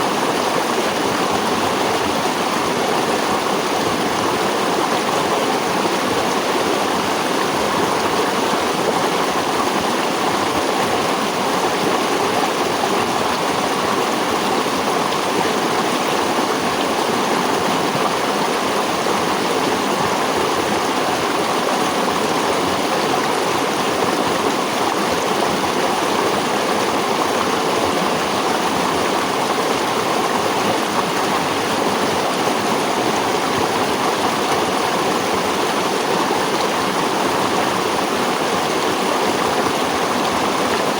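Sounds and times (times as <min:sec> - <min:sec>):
running water flowing: 0:00.0 - 0:40.9.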